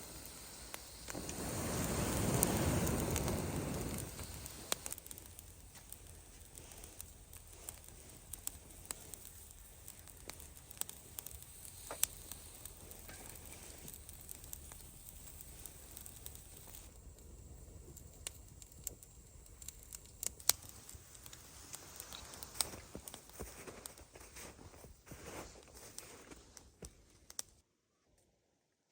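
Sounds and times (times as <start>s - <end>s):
campfire crackling and popping: 0.0s - 27.6s.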